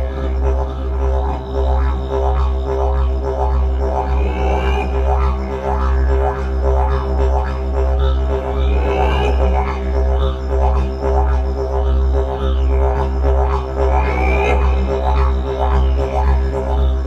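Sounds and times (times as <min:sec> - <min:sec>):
didgeridoo drone: 0:00.0 - 0:17.0.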